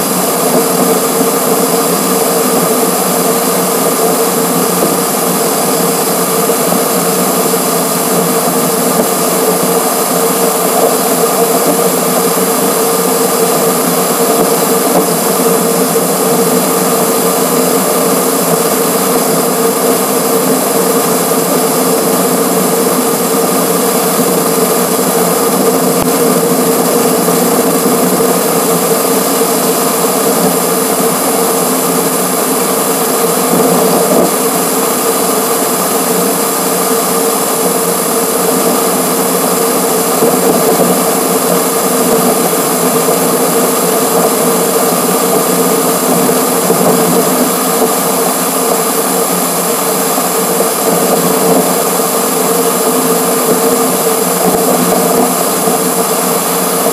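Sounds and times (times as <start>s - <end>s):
mechanical whine: 0.0s - 56.9s.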